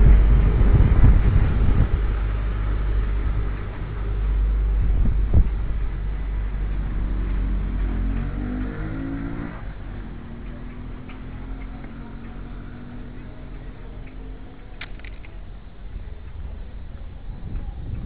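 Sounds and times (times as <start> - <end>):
street traffic rumbling: 0.0 - 18.0
truck engine approaching: 0.0 - 18.0.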